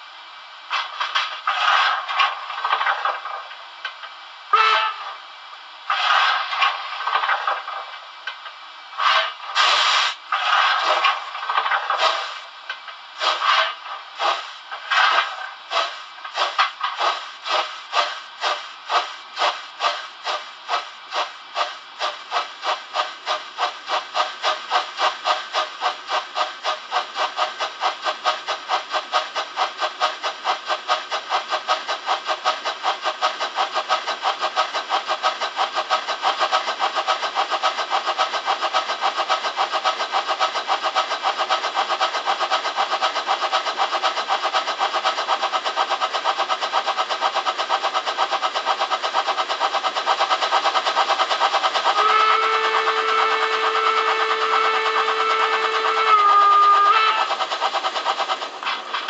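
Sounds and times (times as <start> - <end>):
steam exhaust chuffs from small speaker: 4.5 - 7.4, 8.8 - 12.5, 13.2 - 59.0.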